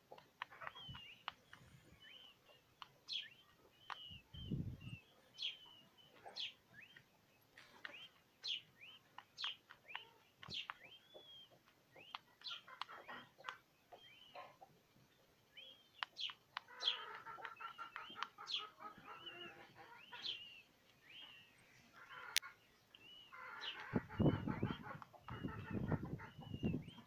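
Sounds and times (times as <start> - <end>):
peachicks peeping: 0.0 - 27.0.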